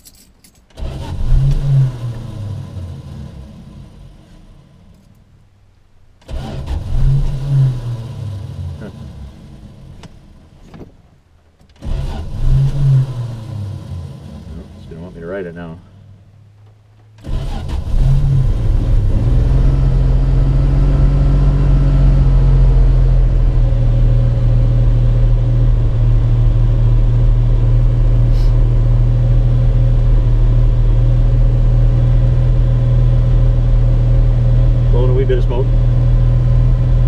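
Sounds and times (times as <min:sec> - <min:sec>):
car engine starting and idling: 0:00.6 - 0:37.0.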